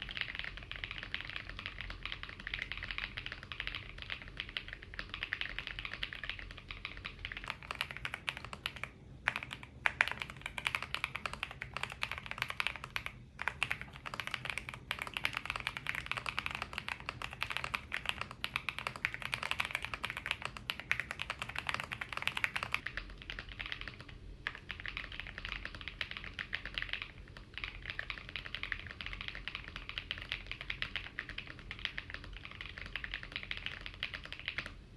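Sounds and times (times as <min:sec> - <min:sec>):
mechanical keyboard typing: 0:00.0 - 0:34.8.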